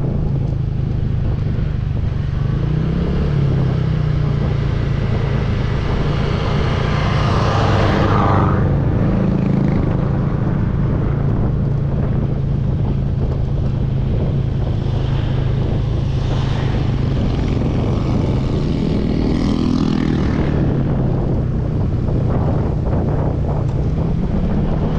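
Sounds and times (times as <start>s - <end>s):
engine droning steadily: 0.0s - 24.9s.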